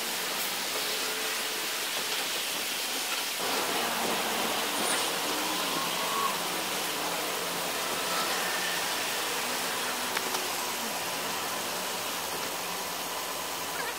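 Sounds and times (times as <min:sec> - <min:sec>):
steady hissing: 0:00.0 - 0:13.9.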